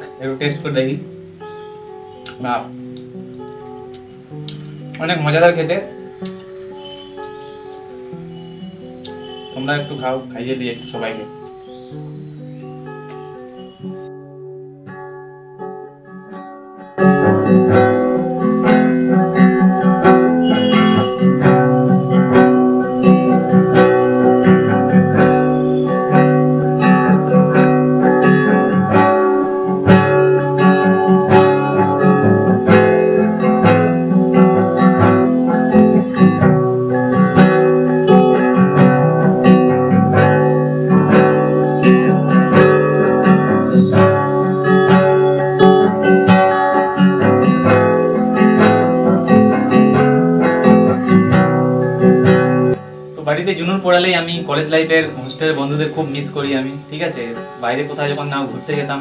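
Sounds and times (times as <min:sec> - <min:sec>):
acoustic guitar strumming music: 0:00.0 - 0:59.0.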